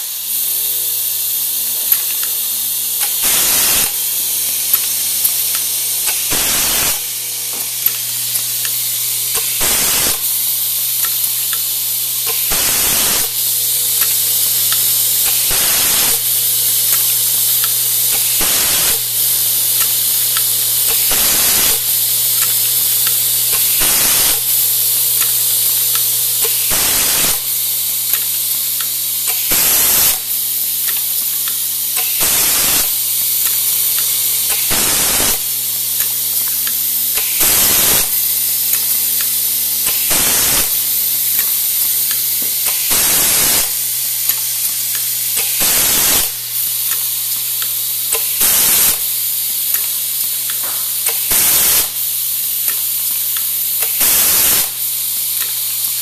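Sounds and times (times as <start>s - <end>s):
compressed air hissing: 0.0s - 56.0s
pneumatic cylinder air burst: 0.0s - 56.0s.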